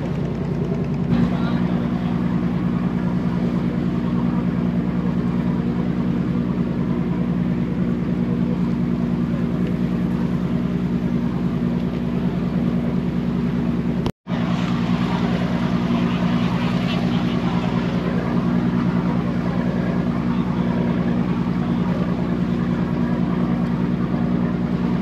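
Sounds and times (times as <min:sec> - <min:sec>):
engine droning with fast pulse: 0:00.0 - 0:25.0.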